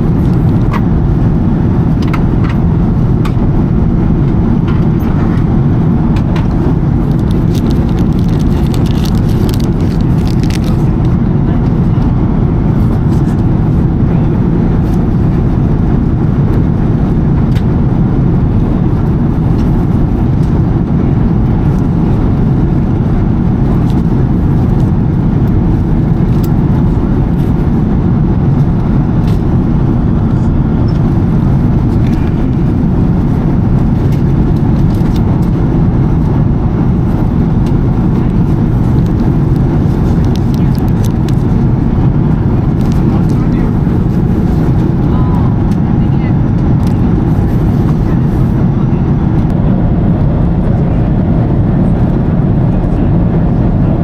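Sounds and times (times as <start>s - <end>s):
airplane cabin engine roar: 0.0s - 54.0s.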